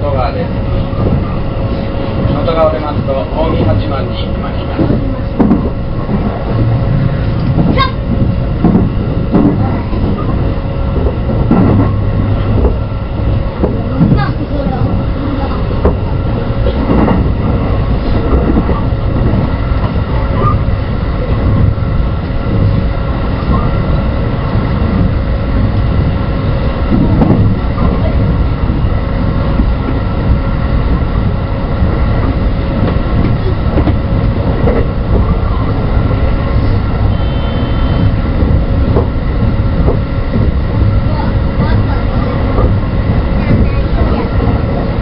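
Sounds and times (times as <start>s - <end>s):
running gear hum: 0.0s - 45.0s
train wheels rumbling on rail: 0.0s - 45.0s.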